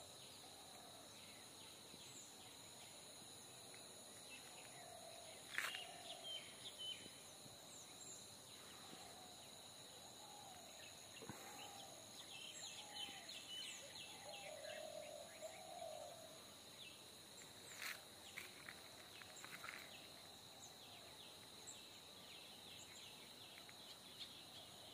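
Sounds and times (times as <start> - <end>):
insects droning: 0.0 - 24.9.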